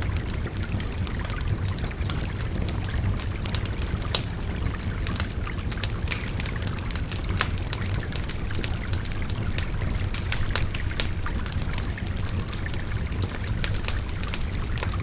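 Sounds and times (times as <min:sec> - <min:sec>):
babbling stream: 0:00.0 - 0:15.0
wood fire crackling and popping: 0:00.0 - 0:15.0.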